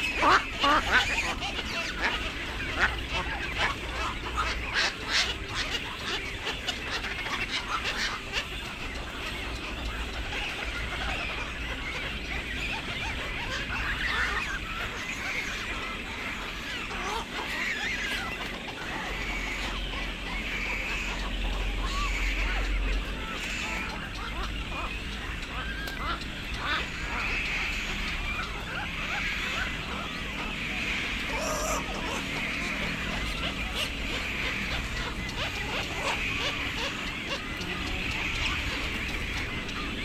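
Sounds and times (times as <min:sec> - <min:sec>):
waterbirds quacking calls: 0:00.0 - 0:40.0.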